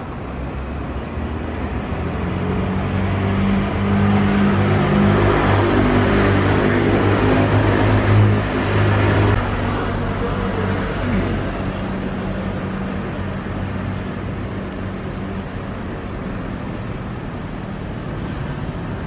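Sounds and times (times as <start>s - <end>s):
cars driving past: 0.0s - 19.0s.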